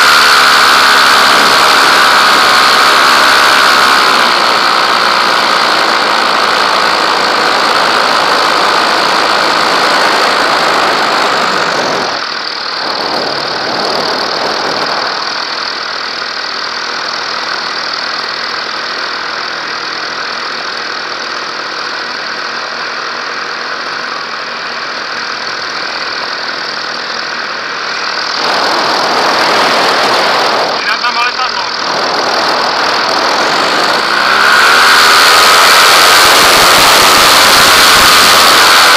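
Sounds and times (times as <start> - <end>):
small aircraft engine running: 0.0 - 38.9.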